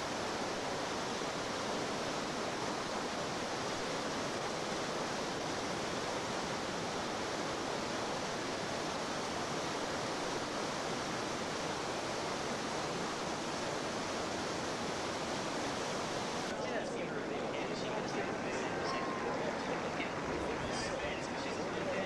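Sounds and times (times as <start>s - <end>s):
whitewater rapids rushing: 0.0s - 22.0s.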